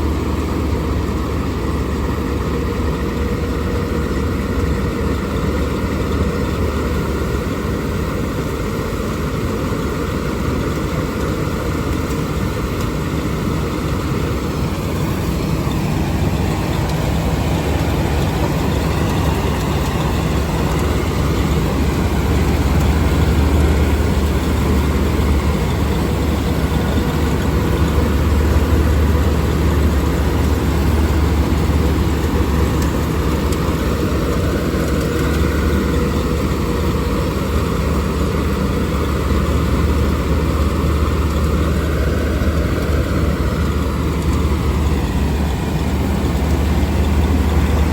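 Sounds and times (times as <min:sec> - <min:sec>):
combine harvester engine running: 0:00.0 - 0:47.9.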